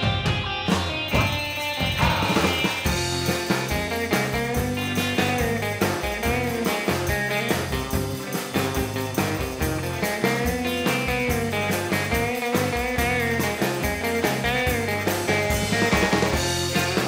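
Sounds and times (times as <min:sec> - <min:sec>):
blues-rock music with guitar: 0:00.0 - 0:17.0.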